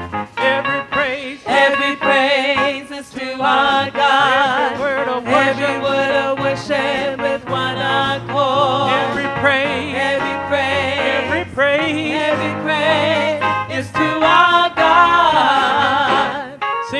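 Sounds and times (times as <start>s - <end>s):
band accompaniment: 0.0s - 16.9s
congregation singing gospel song: 0.0s - 16.9s.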